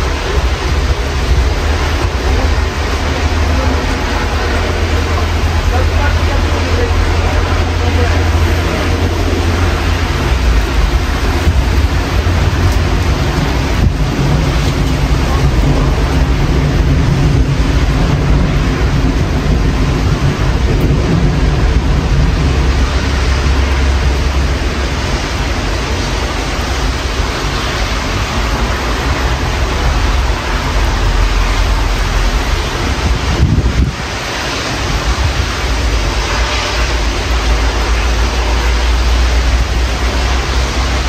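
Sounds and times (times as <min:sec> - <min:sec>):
deep thunder rumble: 0:00.0 - 0:41.0
steady rain: 0:00.0 - 0:41.0
wind buffeting microphone: 0:00.0 - 0:41.0.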